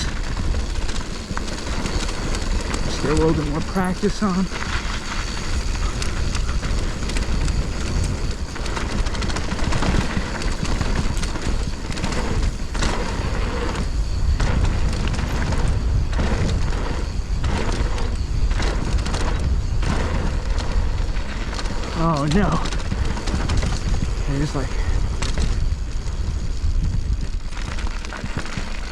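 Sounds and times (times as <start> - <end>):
bike knocks and rattles: 0.0 - 28.9
tyre noise on dirt: 0.0 - 28.9
wind rumbling on microphone: 0.0 - 28.9.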